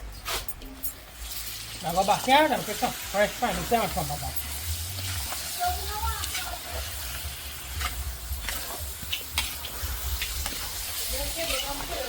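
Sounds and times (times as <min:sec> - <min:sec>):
curry sizzling in a pot: 0:00.2 - 0:12.0.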